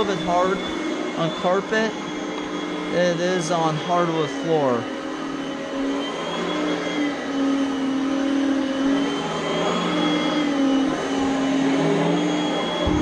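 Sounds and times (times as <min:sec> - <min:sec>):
upright vacuum cleaner on carpet: 0:00.0 - 0:13.0.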